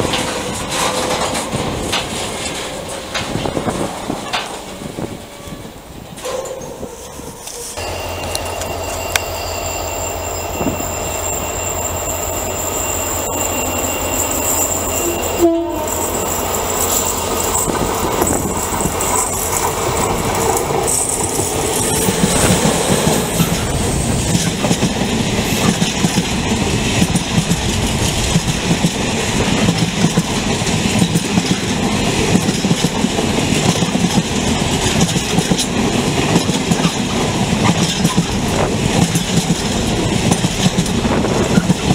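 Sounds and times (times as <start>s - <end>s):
wheels clattering over rail joints: 0.0s - 5.1s, 9.7s - 41.9s
freight train locomotive rumble: 0.0s - 41.9s.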